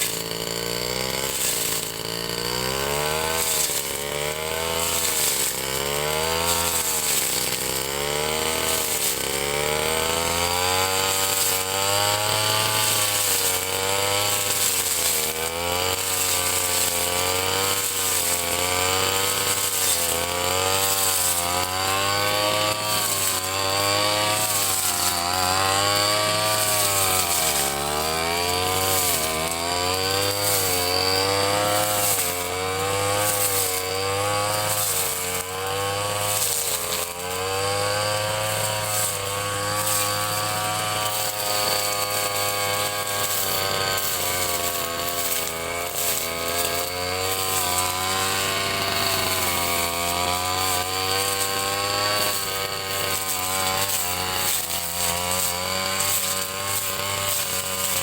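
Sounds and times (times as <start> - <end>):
brush cutter cutting grass: 0.0 - 58.0.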